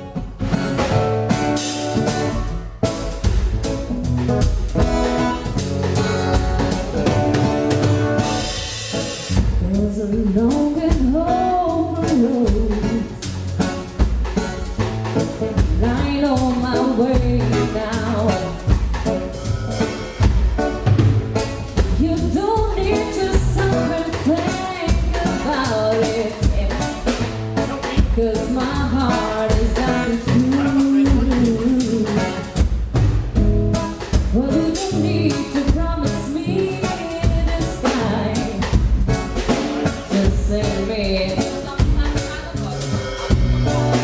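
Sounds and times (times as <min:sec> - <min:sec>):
bass and keyboards: 0:00.0 - 0:44.0
drum kit beat: 0:00.0 - 0:44.0
singing lead melody: 0:04.7 - 0:14.7, 0:15.4 - 0:32.8, 0:33.4 - 0:44.0.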